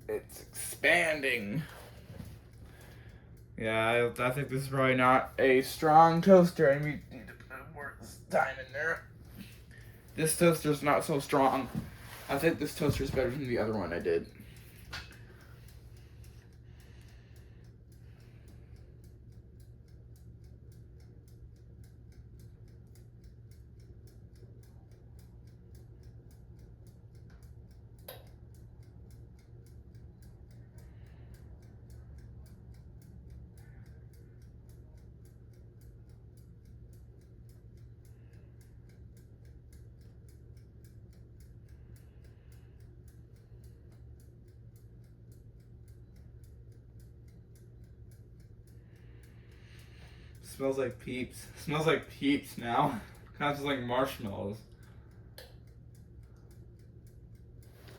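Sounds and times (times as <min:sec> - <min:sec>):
dial timer ticking: 0:00.0 - 0:57.9
low steady hum: 0:00.0 - 0:57.9.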